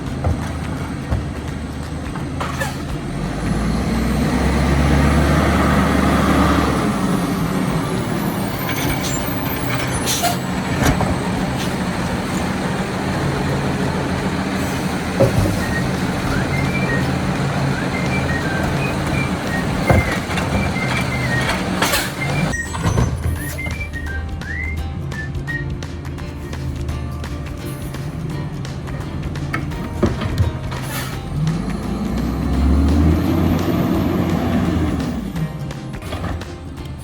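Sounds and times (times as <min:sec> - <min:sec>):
garbage truck engine rumbling: 0:00.0 - 0:37.0.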